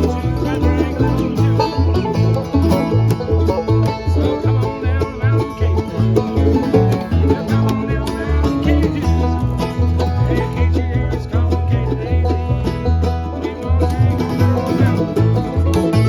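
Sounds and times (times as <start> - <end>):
bass line: 0.0 - 16.0
rapid banjo picking: 0.0 - 16.0.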